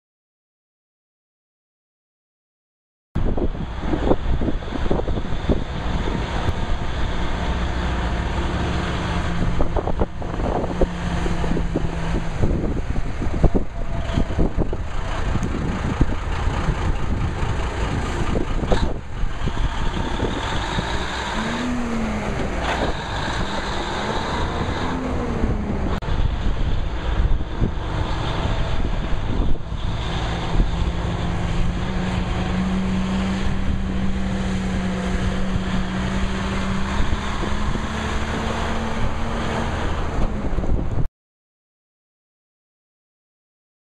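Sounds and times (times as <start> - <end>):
truck diesel engine revving: 3.2 - 41.0.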